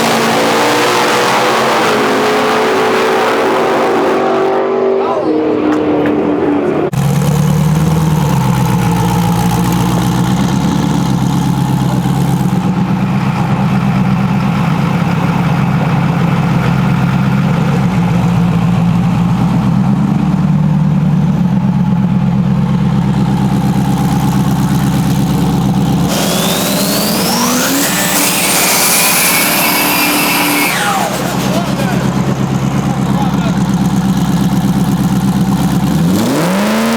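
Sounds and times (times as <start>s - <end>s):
vehicle accelerating whine: 0.0s - 36.9s
vehicle engine idling: 5.6s - 36.4s.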